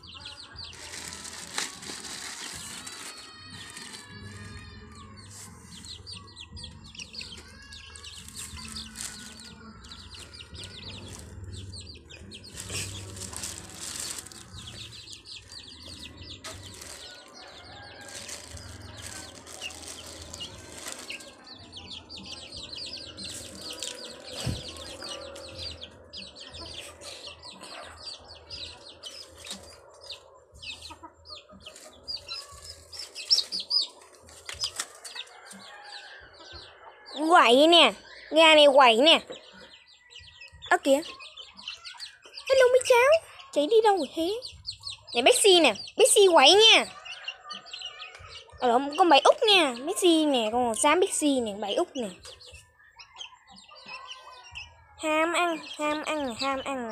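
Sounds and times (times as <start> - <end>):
chicks peeping: 0.0 - 56.9.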